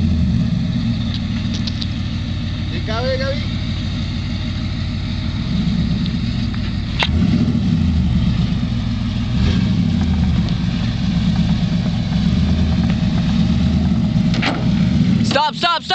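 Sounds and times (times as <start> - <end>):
truck engine low rumble: 0.0 - 15.9.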